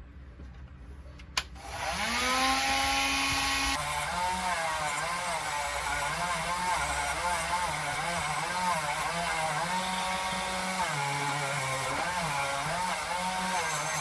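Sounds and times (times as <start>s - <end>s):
electric power tool motor: 1.6s - 14.0s.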